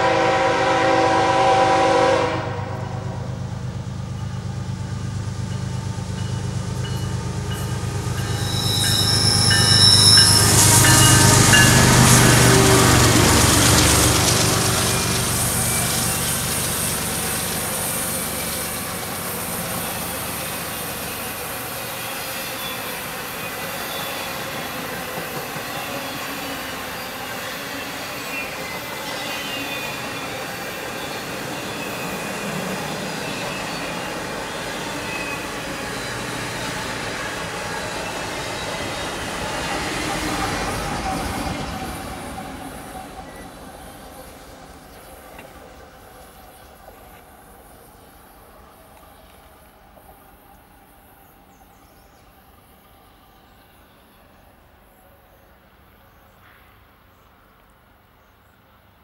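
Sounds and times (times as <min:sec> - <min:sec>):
train wheels rushing on rails: 0:00.0 - 0:53.0
diesel locomotive drone: 0:00.0 - 0:57.7.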